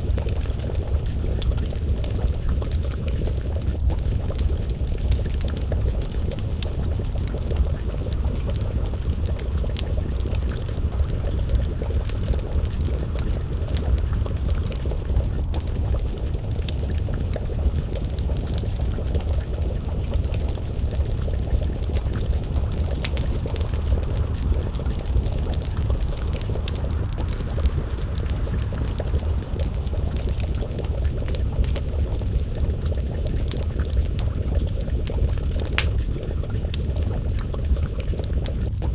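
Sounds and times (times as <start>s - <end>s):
pot bubbling: 0.0s - 38.9s
wood fire crackling: 0.0s - 38.9s.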